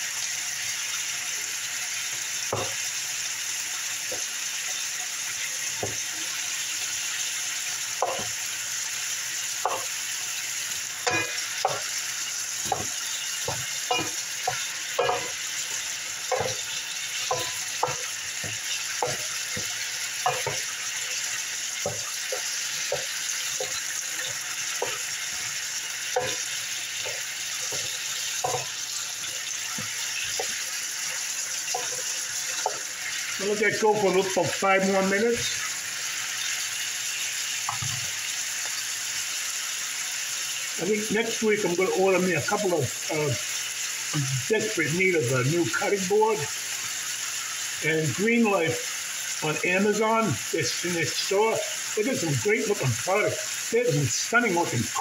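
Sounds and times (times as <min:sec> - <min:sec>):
chicken sizzling in oil: 0:00.0 - 0:55.0.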